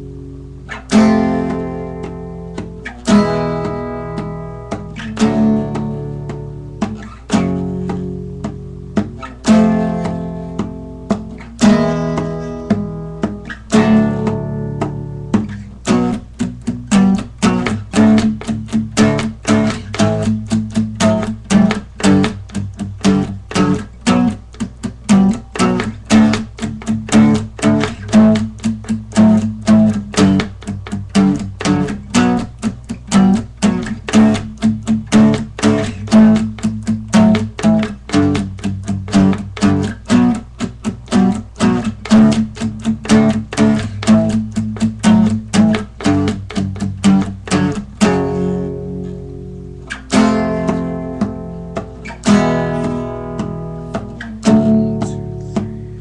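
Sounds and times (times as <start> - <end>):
guitar picking and strumming: 0.0 - 56.0.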